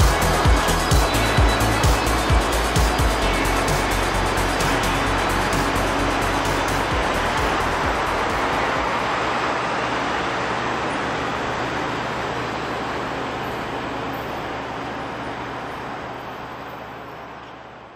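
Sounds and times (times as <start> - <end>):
train rushing: 0.0 - 14.6.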